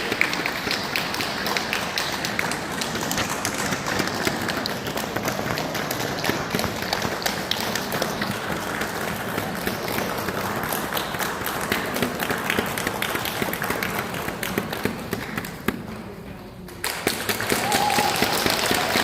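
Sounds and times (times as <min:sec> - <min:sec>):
audience applause: 0:00.0 - 0:15.8, 0:16.8 - 0:19.0.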